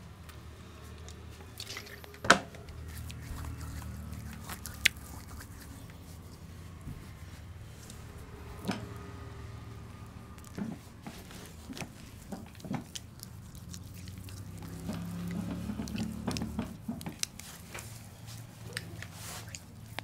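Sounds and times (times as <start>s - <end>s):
hands squishing on lathered skin: 1.6s - 8.4s, 9.8s - 20.0s.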